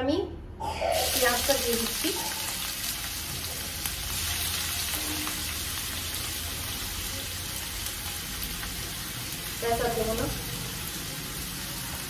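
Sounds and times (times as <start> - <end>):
onions sizzling in oil: 1.0 - 12.0.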